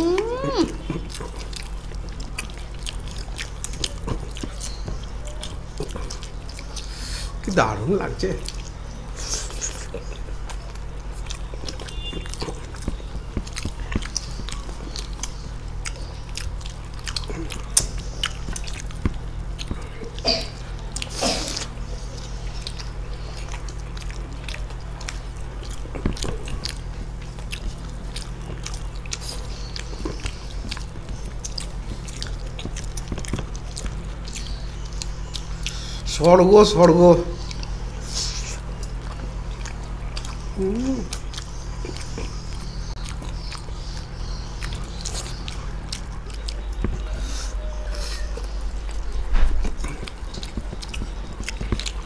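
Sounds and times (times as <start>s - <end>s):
mouth clicks and smacks: 0.0s - 7.4s, 8.3s - 36.0s, 37.4s - 52.0s
low electrical hum: 0.0s - 52.0s
people chewing food: 0.0s - 52.0s.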